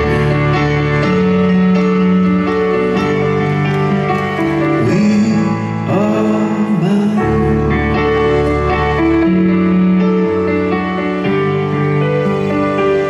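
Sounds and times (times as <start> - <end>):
grand piano chords: 0.0 - 13.0.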